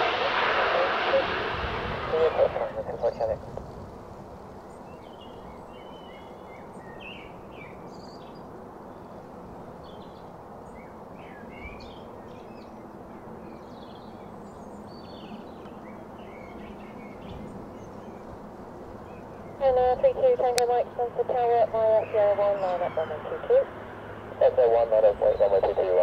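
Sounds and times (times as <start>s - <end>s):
birds chirping: 0.0s - 3.4s, 4.1s - 26.0s
faint constant tone: 0.0s - 26.0s
steady background hum: 0.0s - 26.0s.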